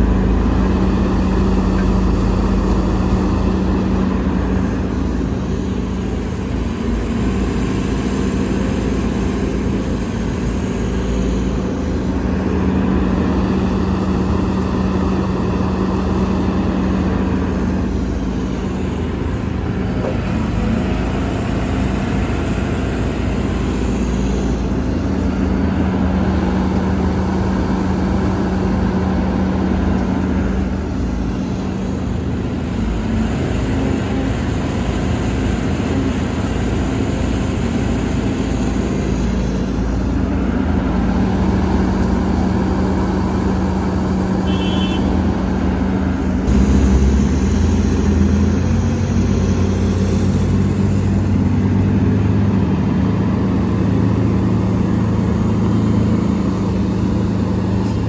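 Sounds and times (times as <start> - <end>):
diesel machinery engine hum: 0.0 - 58.0.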